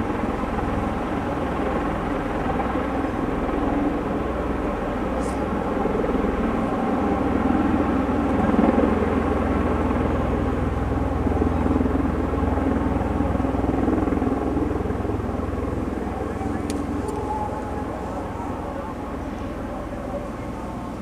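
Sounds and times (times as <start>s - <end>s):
aircraft rotors droning: 0.0s - 21.0s.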